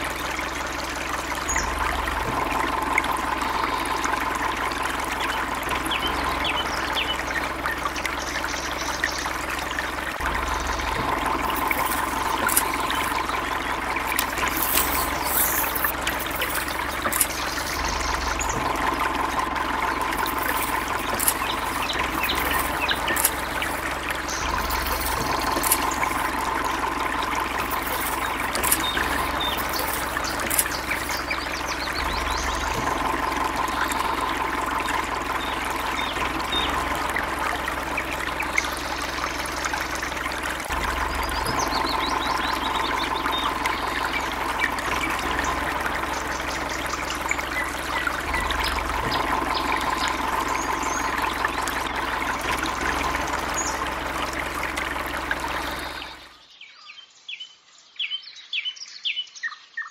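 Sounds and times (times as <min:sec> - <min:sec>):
water trickling: 0:00.0 - 0:56.4.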